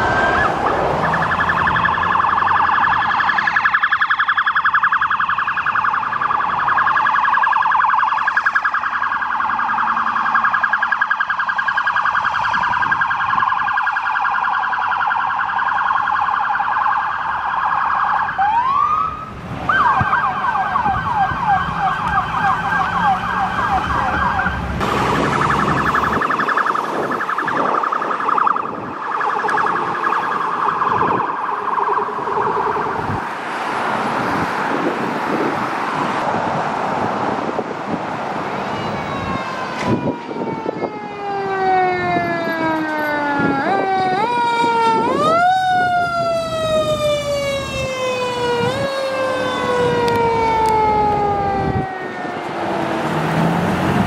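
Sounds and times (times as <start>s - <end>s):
electronic siren yelping: 0.0s - 33.3s, 38.7s - 53.1s.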